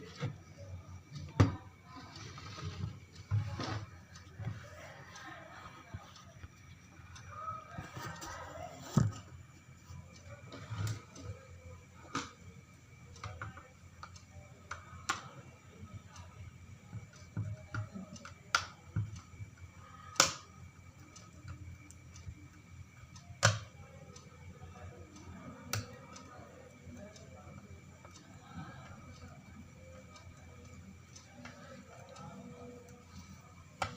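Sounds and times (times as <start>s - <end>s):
faint steady hum: 0.0s - 33.9s.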